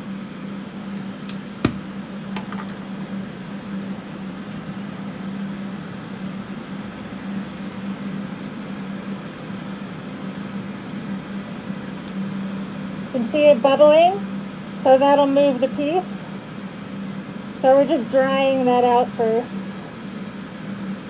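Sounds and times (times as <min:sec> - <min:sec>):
fans whirring with low hum: 0:00.0 - 0:21.0.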